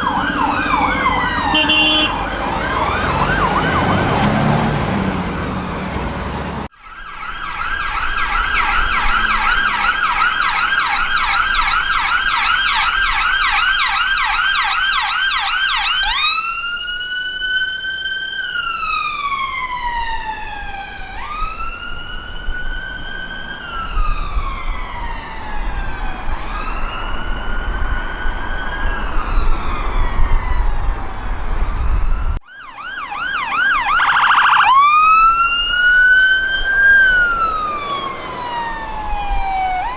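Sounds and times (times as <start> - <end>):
emergency vehicle siren: 0.0 - 39.9
road noise: 0.0 - 39.9.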